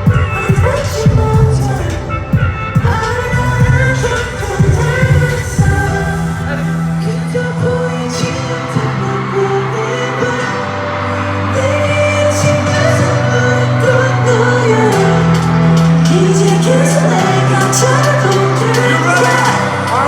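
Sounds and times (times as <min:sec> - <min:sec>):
live pop music over loudspeakers: 0:00.0 - 0:20.0
person singing: 0:00.0 - 0:20.0.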